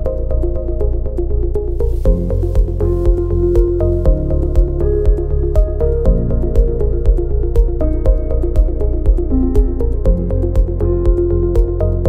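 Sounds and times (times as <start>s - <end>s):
background music with steady beat: 0.0s - 12.0s
sustained bass notes: 0.0s - 12.0s.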